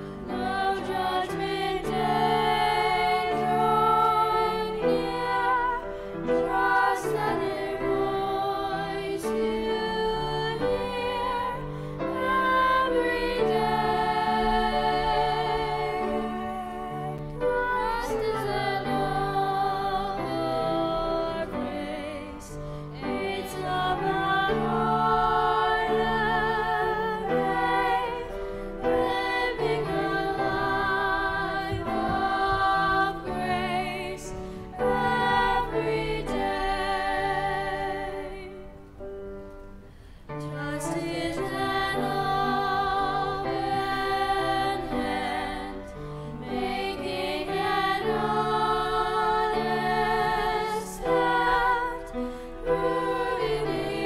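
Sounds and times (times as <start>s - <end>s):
hymn sung with vibrato: 0.0s - 38.7s, 40.4s - 54.0s
sustained accompaniment: 0.0s - 54.0s.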